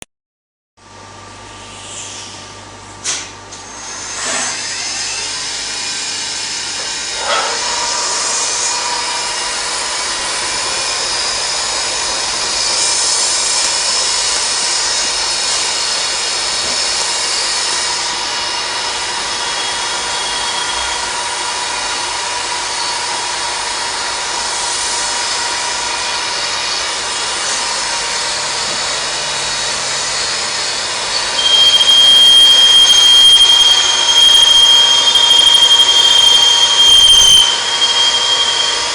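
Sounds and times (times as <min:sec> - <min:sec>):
high steady whine: 0:03.1 - 0:38.9
machine cutting metal: 0:03.1 - 0:38.9.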